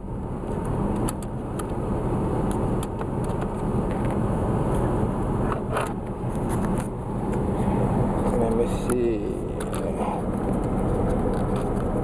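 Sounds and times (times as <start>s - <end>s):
van engine hum inside cabin: 0.0s - 12.0s.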